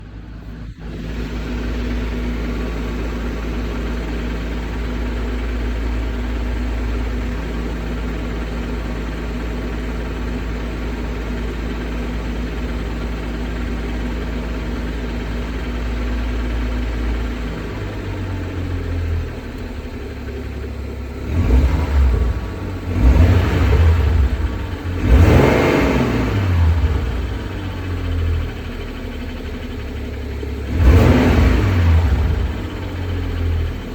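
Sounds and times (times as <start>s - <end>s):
car engine running and revving: 0.0s - 33.9s
engine clicking: 0.0s - 33.9s.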